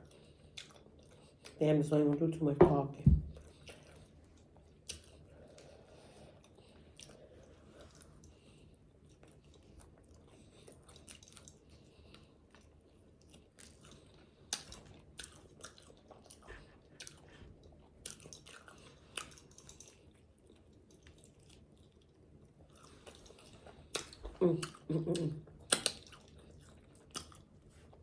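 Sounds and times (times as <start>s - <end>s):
chewing fried chicken: 0.0s - 1.6s, 3.4s - 28.0s.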